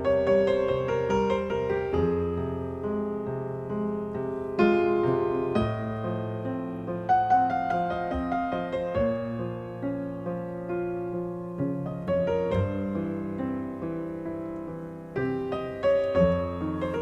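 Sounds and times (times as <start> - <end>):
solo piano melody: 0.0 - 17.0.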